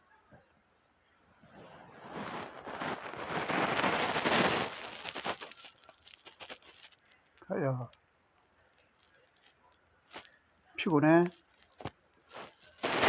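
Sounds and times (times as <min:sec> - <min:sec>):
close rustling and crackling: 0:01.4 - 0:13.0.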